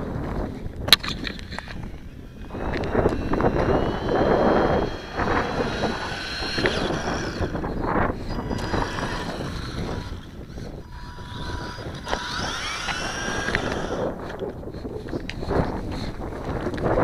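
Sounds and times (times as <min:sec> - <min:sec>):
small electric motor whine: 0:00.0 - 0:16.9
wind buffeting microphone: 0:00.0 - 0:17.0.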